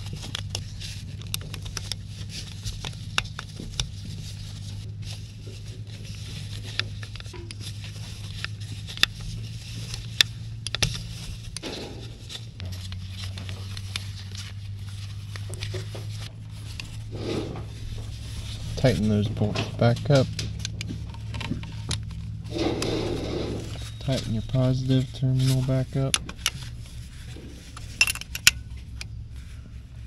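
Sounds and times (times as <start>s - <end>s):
gloved hands brushing parts: 0.0s - 30.0s
steady low hum: 0.0s - 30.0s.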